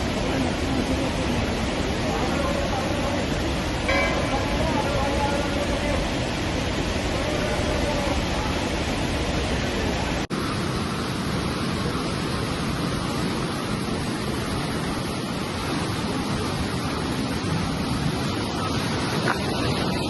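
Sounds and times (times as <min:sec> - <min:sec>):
river rushing loudly: 0:00.0 - 0:20.0.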